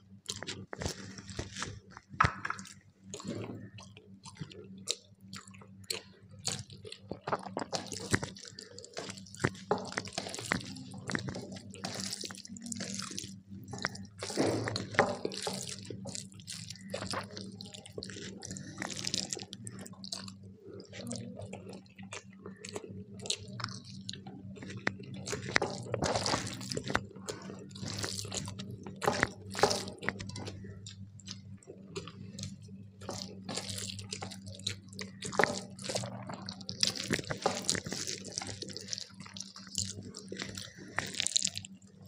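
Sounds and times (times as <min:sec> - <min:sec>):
wet smacking and chewing: 0:00.0 - 0:42.0.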